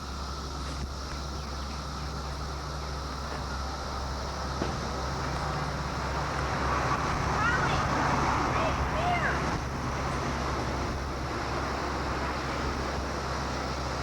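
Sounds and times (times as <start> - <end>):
cicada chorus drone: 0.0 - 14.0
low hum: 0.0 - 14.0.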